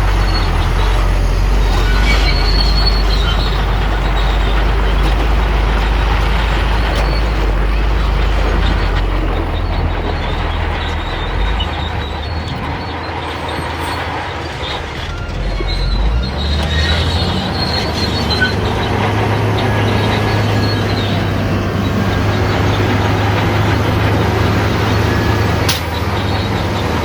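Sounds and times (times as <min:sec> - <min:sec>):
heavy diesel machinery rumble: 0:00.0 - 0:27.0.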